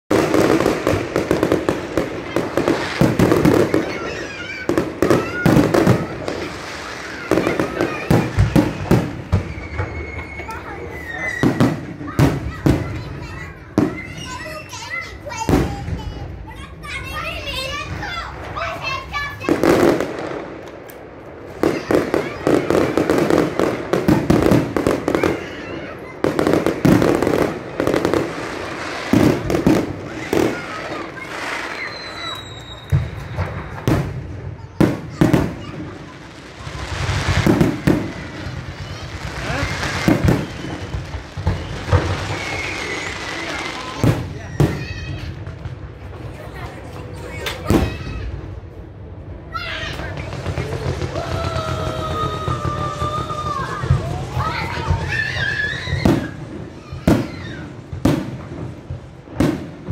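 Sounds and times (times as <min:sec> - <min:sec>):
fireworks bangs and crackles: 0:00.1 - 0:59.9
fireworks whistling: 0:00.1 - 0:59.9.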